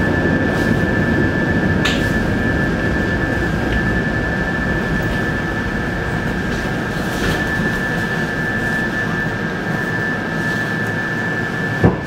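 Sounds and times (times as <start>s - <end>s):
high-pitched whine: 0.0s - 12.0s
train running gear rumble: 0.0s - 12.0s.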